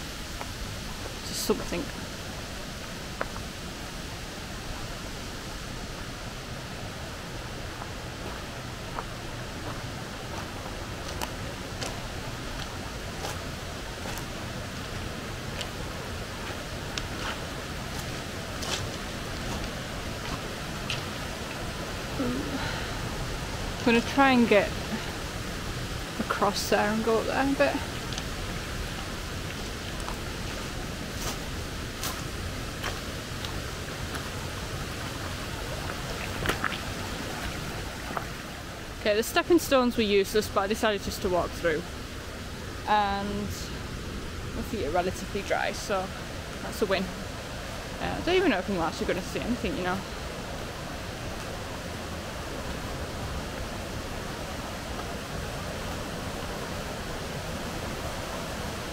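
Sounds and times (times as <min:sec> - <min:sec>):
rushing stream and waterfalls: 0:00.0 - 0:58.9.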